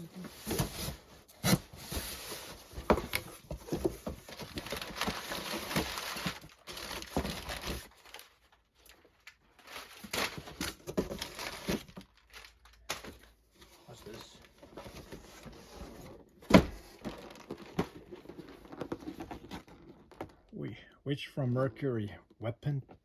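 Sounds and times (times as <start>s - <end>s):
packaging crinkling and rustling: 0.3s - 20.5s.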